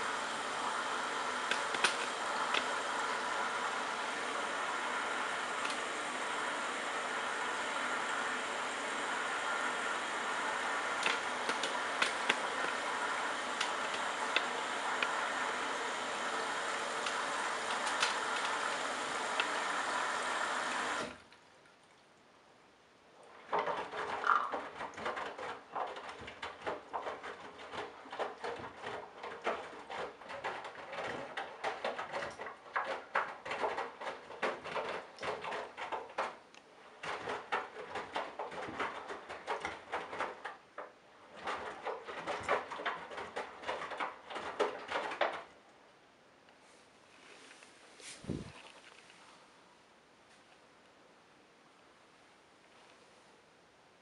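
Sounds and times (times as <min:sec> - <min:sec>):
washing machine drum sloshing laundry: 0:00.0 - 0:21.2, 0:23.2 - 0:45.5
water rushing into washing machine: 0:00.0 - 0:21.3, 0:23.2 - 0:45.6.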